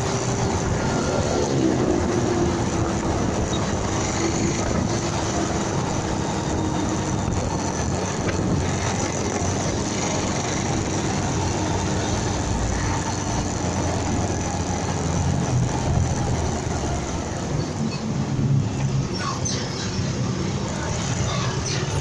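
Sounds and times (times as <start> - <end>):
wind rush on microphone: 0.0 - 19.1
motorcycle engine drone: 0.0 - 22.0.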